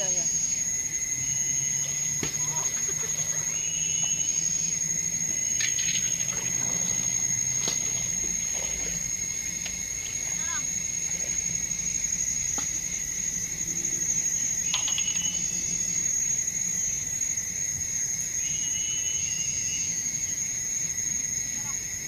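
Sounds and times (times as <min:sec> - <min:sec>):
short insect chirps: 0:00.0 - 0:21.7
insect chorus shrilling: 0:00.0 - 0:22.0.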